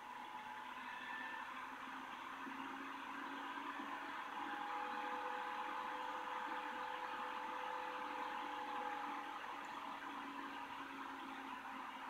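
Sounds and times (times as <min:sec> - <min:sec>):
faint whining tones: 0:00.0 - 0:12.0
machine hum and whir: 0:00.0 - 0:12.0.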